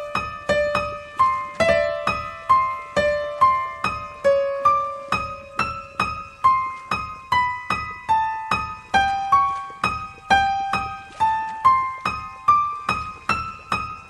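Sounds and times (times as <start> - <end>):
eerie piano melody: 0.0 - 14.0.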